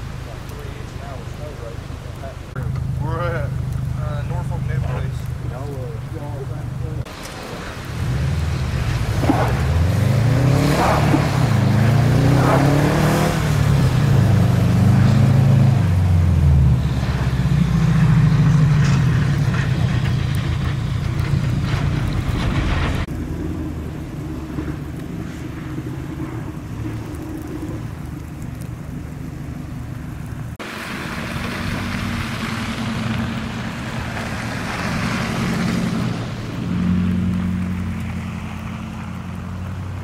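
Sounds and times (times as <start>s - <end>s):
road or wind noise: 0.0s - 40.0s
vehicle engine humming: 0.0s - 40.0s.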